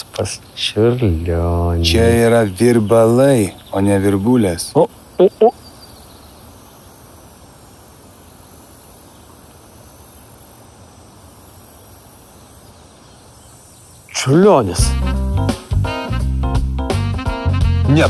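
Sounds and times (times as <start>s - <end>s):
insect chirring: 0.0s - 14.8s
soft even hiss: 0.0s - 14.8s.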